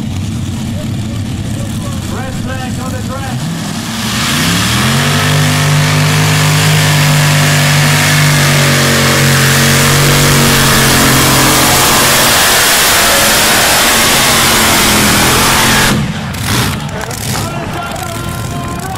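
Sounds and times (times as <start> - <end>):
pulling tractor engines at full throttle: 0.0 - 18.9.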